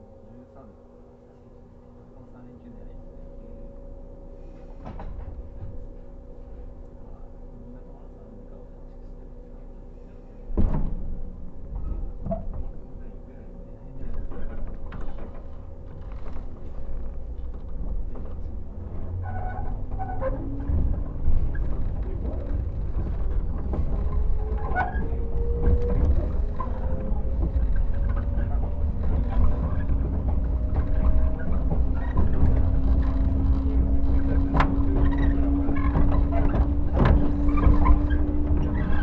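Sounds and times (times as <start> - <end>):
traction motors whining: 0.0 - 39.0
train interior hum: 0.0 - 39.0
train rumble: 0.0 - 39.0.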